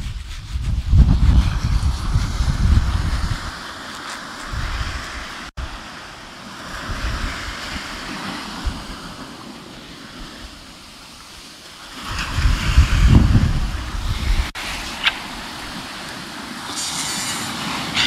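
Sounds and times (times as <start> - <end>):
wind gusting on microphone: 0.0 - 18.0
surf breaking on beach: 0.9 - 18.0.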